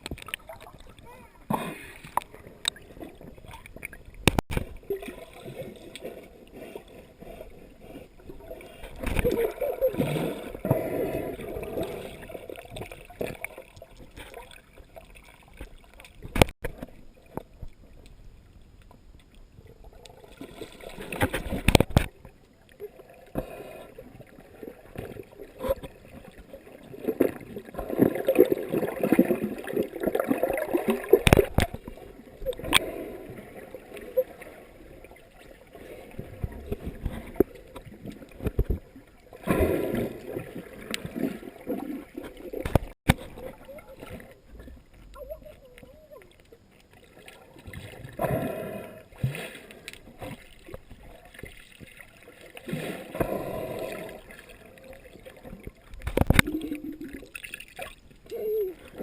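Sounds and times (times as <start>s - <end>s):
water splashing and gurgling: 0.0s - 59.0s.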